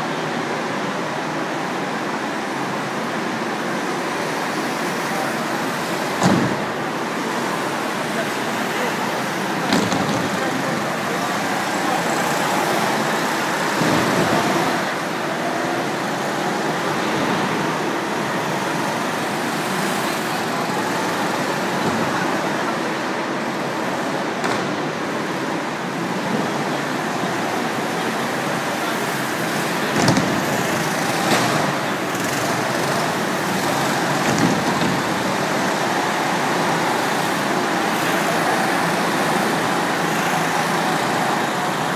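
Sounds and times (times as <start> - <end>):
kart motors echoing: 0.2 - 41.9.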